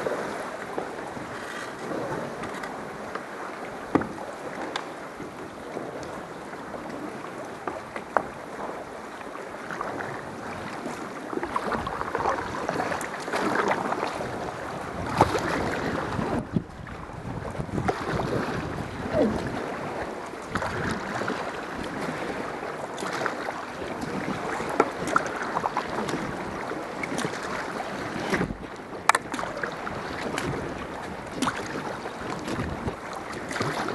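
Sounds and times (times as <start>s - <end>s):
paddles splashing in water: 0.0s - 33.9s.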